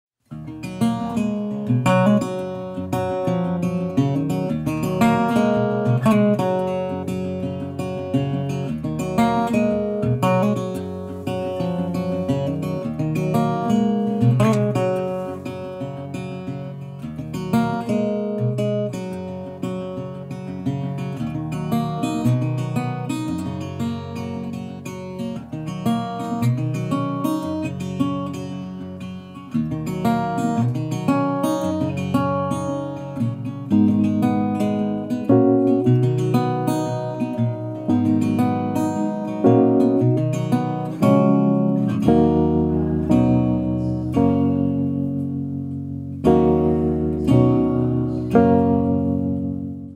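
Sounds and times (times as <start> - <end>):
acoustic guitar picking and strumming: 0.2 - 49.9.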